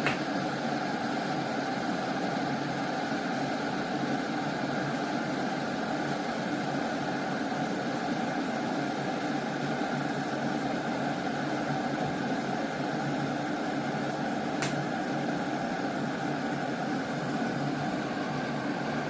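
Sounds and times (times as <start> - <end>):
electric kettle heating water: 0.0 - 19.0.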